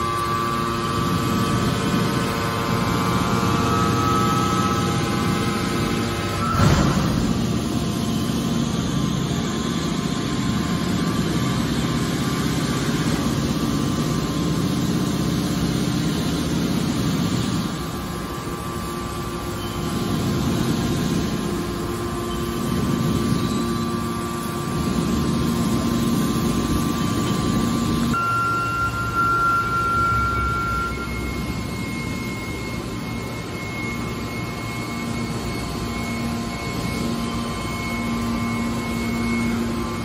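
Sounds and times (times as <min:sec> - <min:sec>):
hydraulic baler droning: 0:00.0 - 0:40.0.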